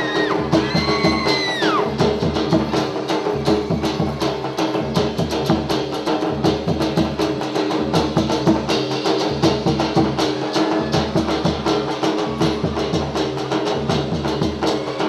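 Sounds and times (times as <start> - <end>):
folk dance music: 0.0 - 8.0, 9.5 - 15.0.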